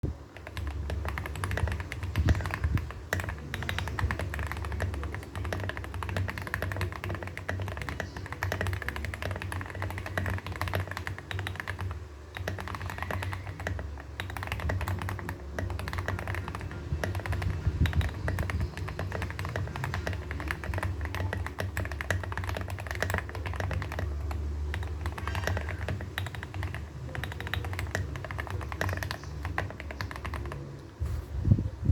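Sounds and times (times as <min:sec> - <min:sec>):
fast typing on mechanical keyboard: 0:00.2 - 0:30.8.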